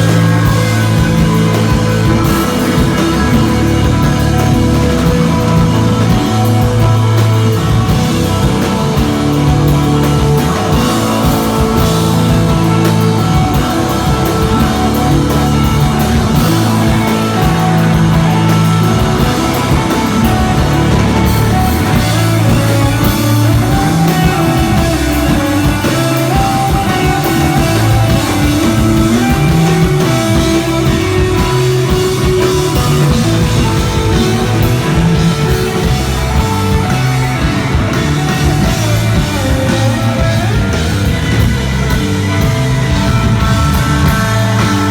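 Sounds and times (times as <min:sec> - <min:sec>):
droning electric guitar: 0:00.0 - 0:44.9
drums and cymbals: 0:00.0 - 0:44.9
electric bass notes: 0:00.0 - 0:44.9.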